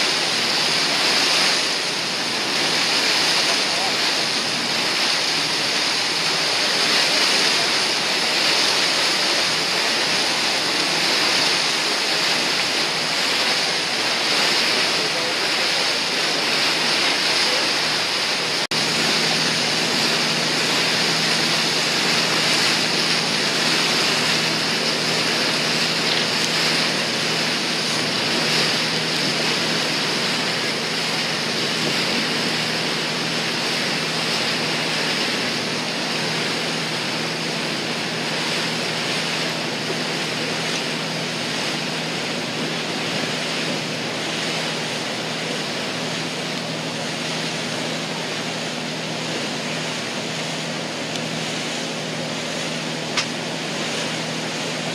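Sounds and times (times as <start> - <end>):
low engine hum: 0.0 - 54.9
sea water rushing: 0.0 - 54.9
wind: 0.0 - 54.9.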